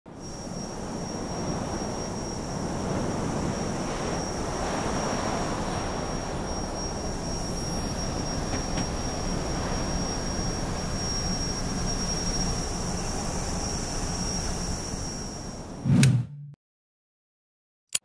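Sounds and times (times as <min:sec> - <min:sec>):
jet engines passing: 0:00.1 - 0:15.9.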